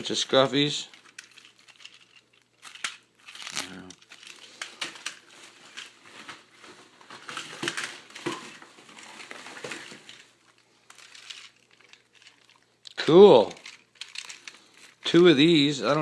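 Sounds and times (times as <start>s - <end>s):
toy train cars clattering: 0.0s - 6.0s, 7.2s - 16.0s
packaging rustling and crinkling: 0.0s - 16.0s.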